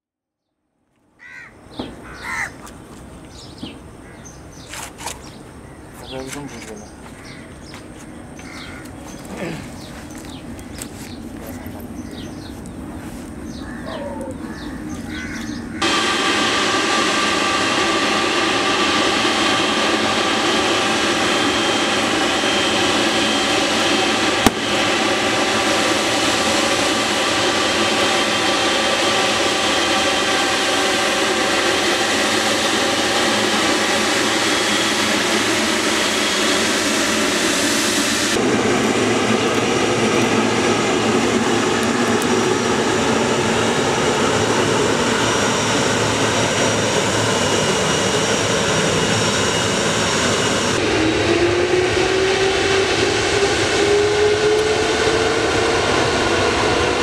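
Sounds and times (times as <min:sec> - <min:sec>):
jet engines whining and humming: 0:00.8 - 0:57.0
jet engine spooling up: 0:08.8 - 0:57.0.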